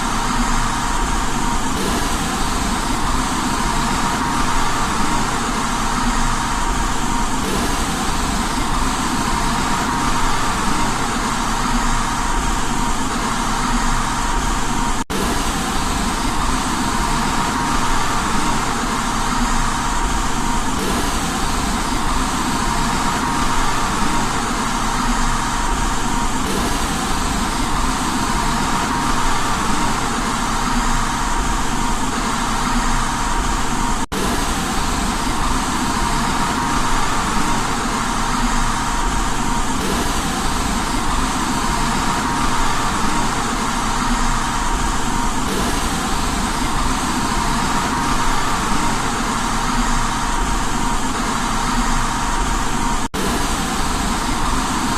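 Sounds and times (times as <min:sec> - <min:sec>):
white noise: 0:00.0 - 0:54.9.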